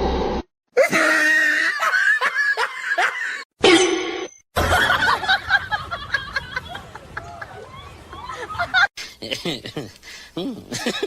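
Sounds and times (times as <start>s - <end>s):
person laughing: 0.8s - 3.4s, 4.6s - 11.0s.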